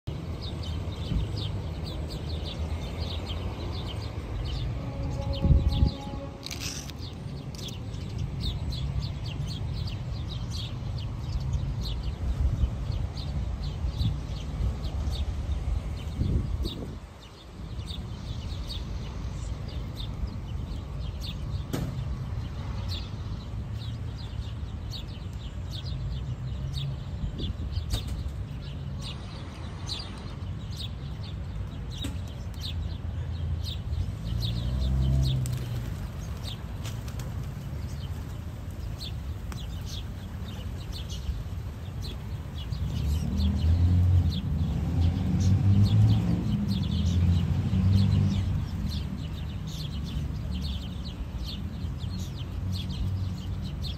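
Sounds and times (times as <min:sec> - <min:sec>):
low rumble of city traffic: 0:00.0 - 0:53.9
sparrows chirping: 0:00.0 - 0:53.9.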